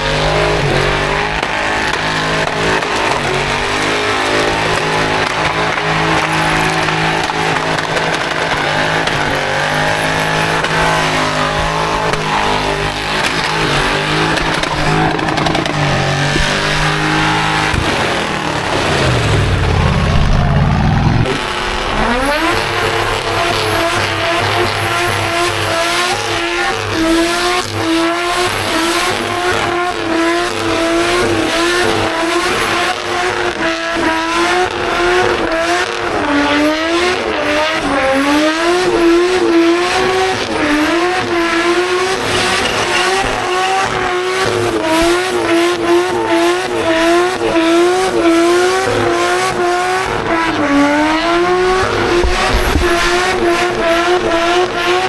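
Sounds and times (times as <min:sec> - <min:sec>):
car engine at high revs: 0:00.0 - 0:55.0
spinning tyres: 0:00.0 - 0:55.0.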